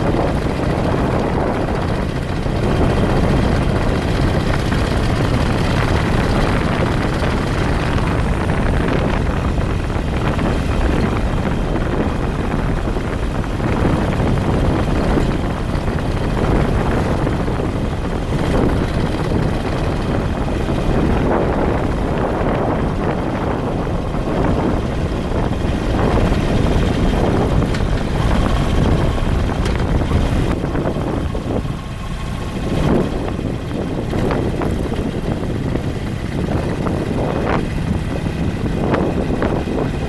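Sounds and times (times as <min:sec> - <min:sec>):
road and engine noise: 0:00.0 - 0:40.0
wind buffeting on microphone: 0:00.0 - 0:40.0.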